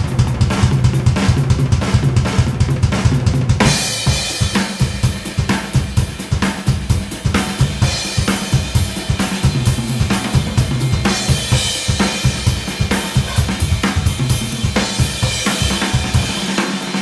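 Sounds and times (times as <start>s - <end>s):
acoustic drum kit played fast: 0.0s - 17.0s.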